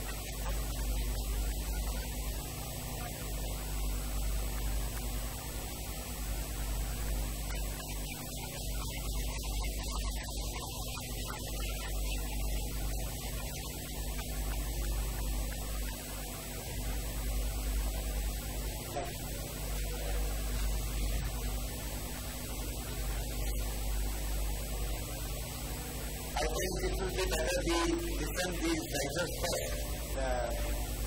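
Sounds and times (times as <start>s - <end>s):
electrical mains hum: 0.0s - 31.0s
even hiss: 0.0s - 31.0s.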